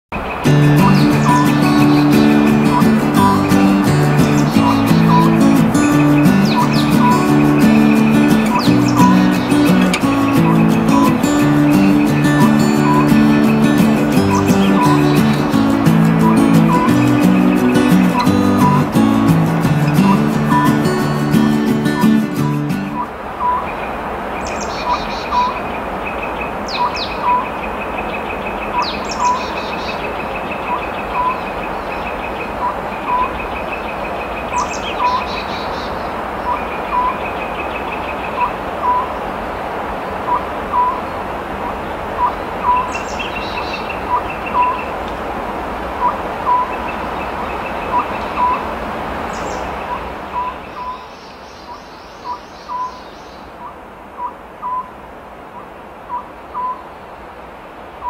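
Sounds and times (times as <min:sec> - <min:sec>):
background hiss: 0:00.2 - 0:58.0.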